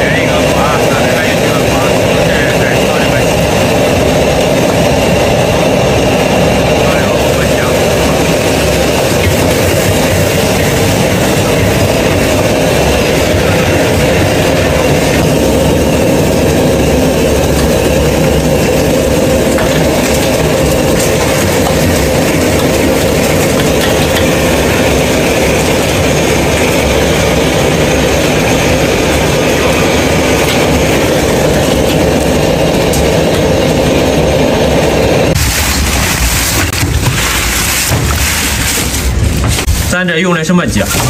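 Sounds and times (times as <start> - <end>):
gas burner roaring: 0.0 - 41.0.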